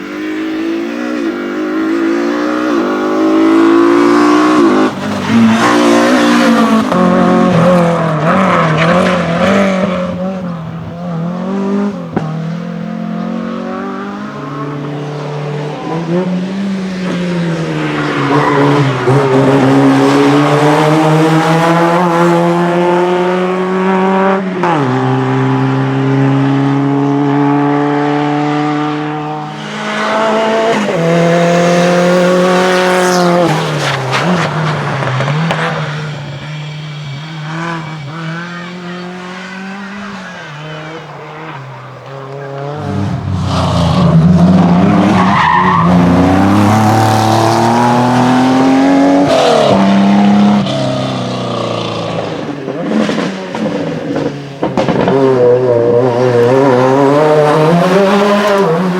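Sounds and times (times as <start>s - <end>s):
race car engine revving: 0.0s - 58.9s.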